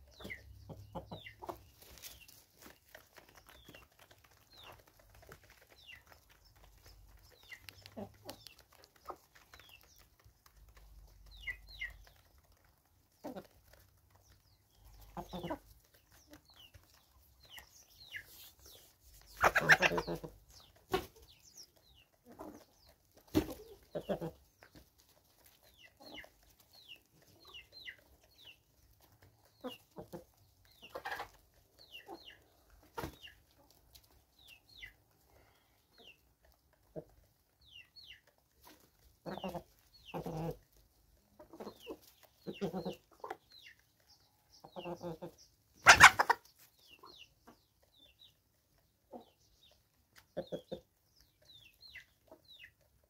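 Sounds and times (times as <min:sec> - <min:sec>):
hens clucking: 0:00.0 - 0:53.0.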